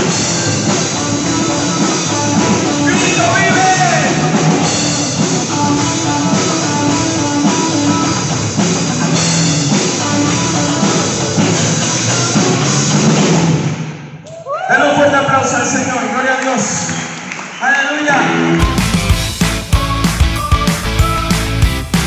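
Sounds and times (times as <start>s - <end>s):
live rock band playing: 0.0s - 14.0s, 18.2s - 22.0s.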